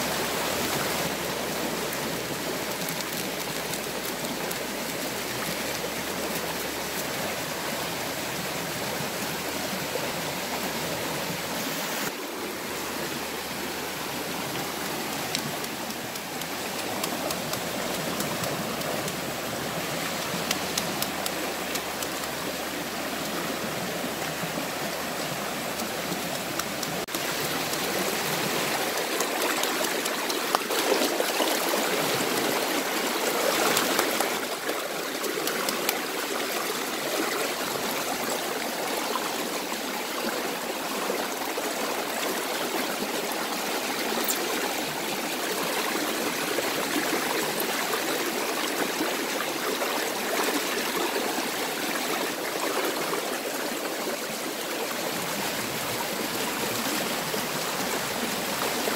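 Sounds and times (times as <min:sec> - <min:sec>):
stream water running over rocks: 0:00.0 - 0:58.9.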